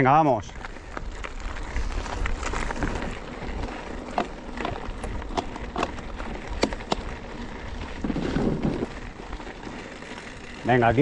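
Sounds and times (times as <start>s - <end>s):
bike tyres crunching on gravel: 0.0s - 11.0s.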